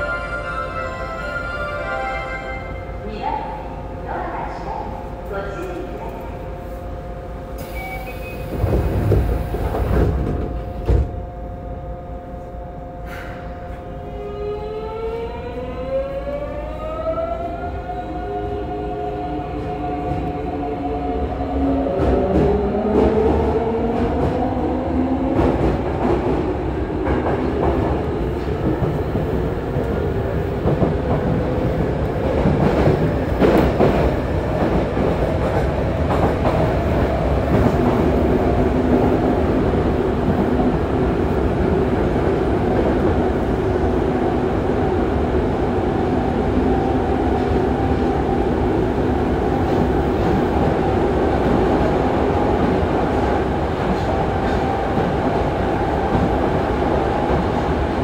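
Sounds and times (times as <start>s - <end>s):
subway motor whine: 0.0s - 58.0s.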